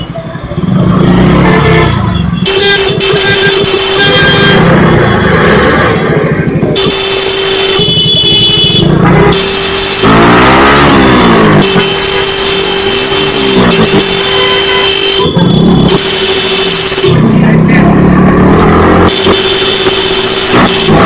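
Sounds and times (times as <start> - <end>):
road traffic: 0.0 - 21.0
motorcycle engine running: 0.1 - 7.0, 7.8 - 21.0.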